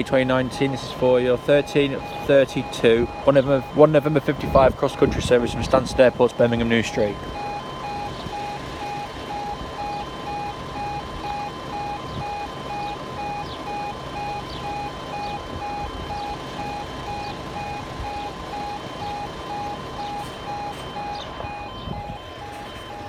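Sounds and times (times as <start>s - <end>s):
level crossing alarm beeping: 0.0s - 23.0s.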